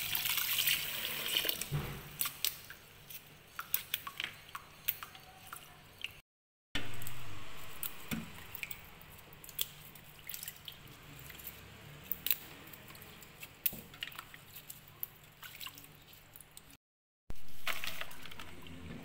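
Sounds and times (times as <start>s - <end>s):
washing greens in water: 0.0s - 6.2s, 6.8s - 19.0s.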